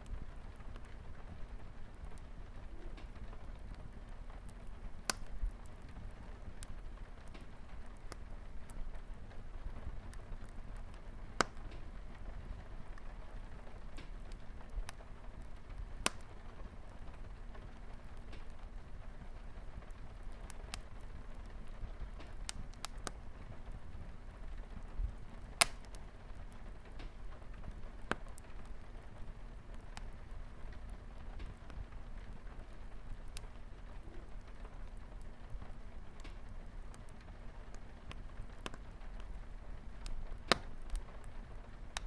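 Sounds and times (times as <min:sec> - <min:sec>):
light rain on a window: 0:00.0 - 0:42.0
sharp fire pops: 0:00.0 - 0:42.0
wood fire crackling: 0:00.0 - 0:42.0.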